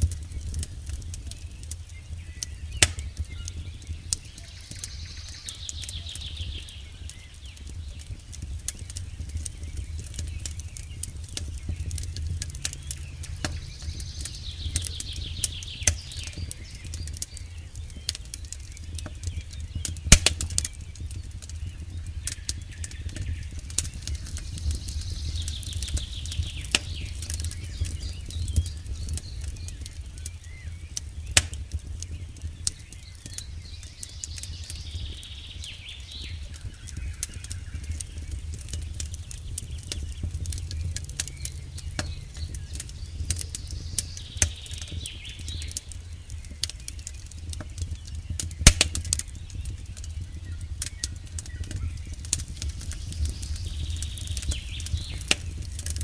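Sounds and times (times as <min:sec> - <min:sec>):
campfire crackling and popping: 0:00.0 - 0:56.0
steady low rumble: 0:00.0 - 0:56.0.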